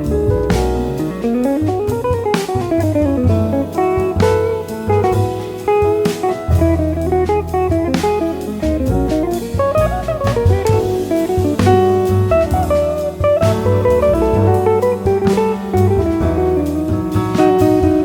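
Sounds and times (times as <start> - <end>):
double bass: 0.0 - 18.0
drums with cymbal strikes: 0.0 - 18.0
jazz guitar solo: 0.0 - 18.0.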